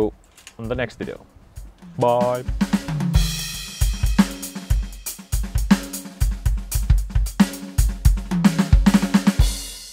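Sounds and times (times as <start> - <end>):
music with drum-kit beat: 1.0 - 9.9.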